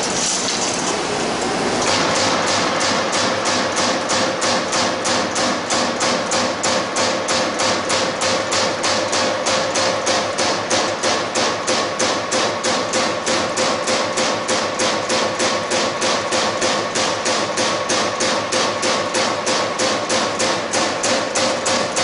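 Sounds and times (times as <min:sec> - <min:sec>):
punch press hitting sheet metal: 0:00.0 - 0:01.0, 0:01.8 - 0:22.0
steady machine hum: 0:00.0 - 0:22.0.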